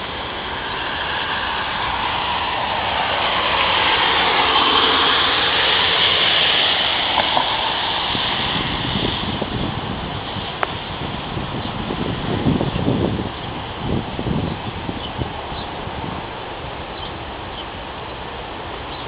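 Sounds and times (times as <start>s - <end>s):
vehicle passing on wet road: 0.0s - 19.0s.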